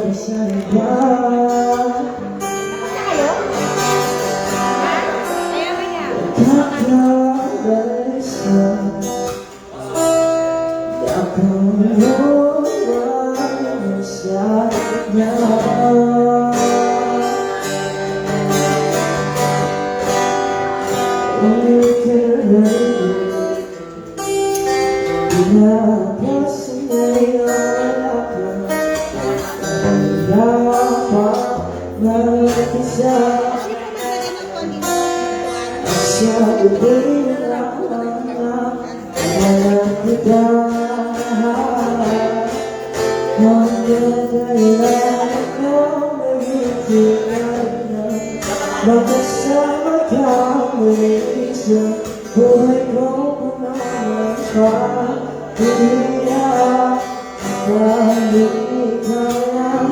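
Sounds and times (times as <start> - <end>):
person singing: 0.0 - 18.0, 25.1 - 59.9
acoustic guitar: 0.0 - 59.9.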